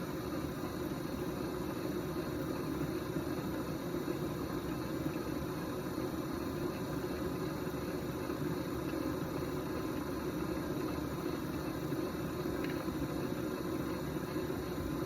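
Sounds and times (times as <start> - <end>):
potter's wheel motor hum: 0.0 - 15.0.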